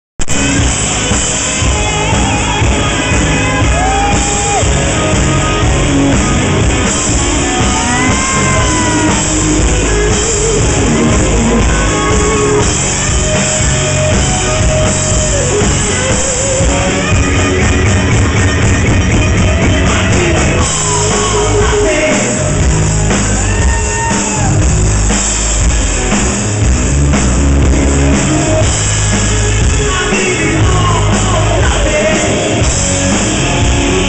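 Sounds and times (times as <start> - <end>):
heavy rock band: 0.2 - 34.0
electric guitar bending notes: 0.3 - 34.0.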